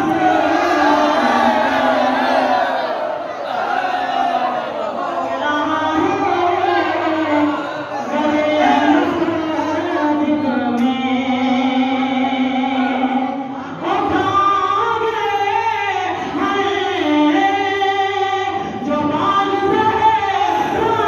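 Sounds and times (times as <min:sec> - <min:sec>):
voices singing devotional verse: 0:00.0 - 0:21.0.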